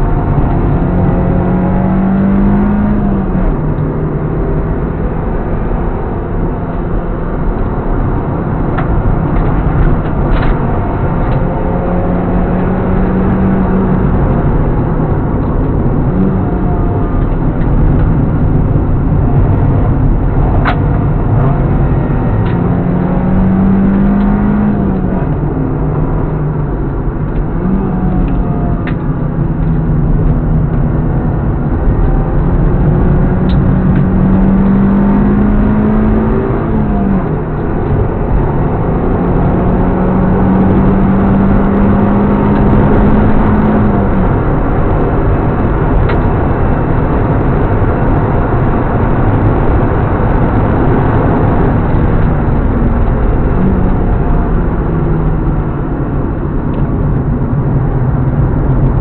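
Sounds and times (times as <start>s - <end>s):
car engine revving: 0.0s - 59.0s
road and wind noise: 0.0s - 59.0s.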